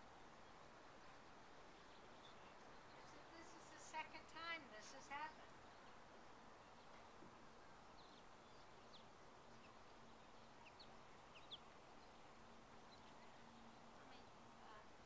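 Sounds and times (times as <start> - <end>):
faint low hum: 0.0 - 15.0
faint bird chirps: 0.1 - 15.0.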